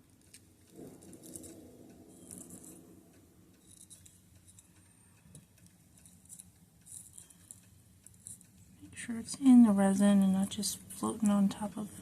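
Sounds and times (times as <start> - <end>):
craft pieces rustling and ticking: 0.0 - 10.7.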